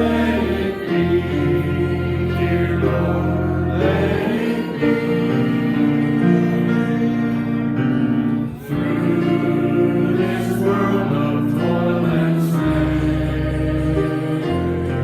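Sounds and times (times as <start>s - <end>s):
congregation singing a hymn: 0.0s - 15.0s
instrumental accompaniment: 0.0s - 15.0s.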